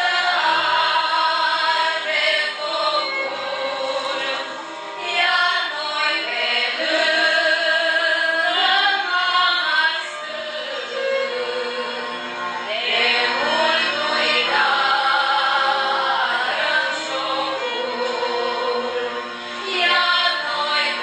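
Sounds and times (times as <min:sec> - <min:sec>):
children singing a carol: 0:00.0 - 0:21.0.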